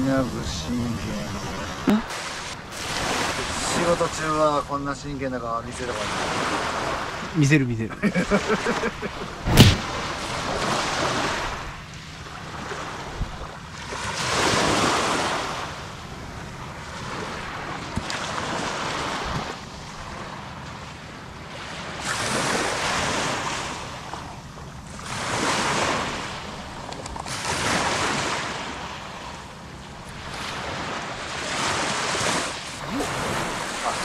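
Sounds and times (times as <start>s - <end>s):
small waves breaking on beach: 0.0s - 7.5s, 8.1s - 34.0s.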